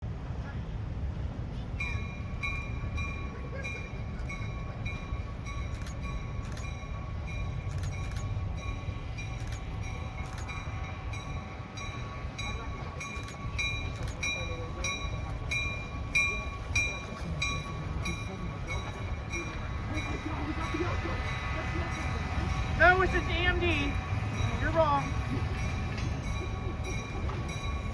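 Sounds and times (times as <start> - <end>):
train rumbling: 0.0 - 27.9
bell ringing: 1.9 - 27.9.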